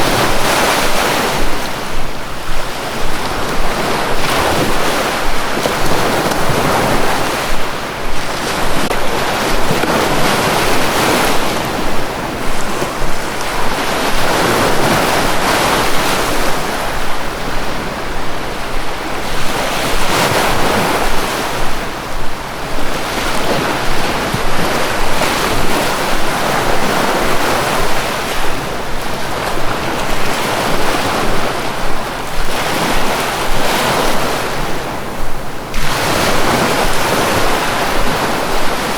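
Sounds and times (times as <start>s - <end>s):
sea waves washing in: 0.0s - 38.9s.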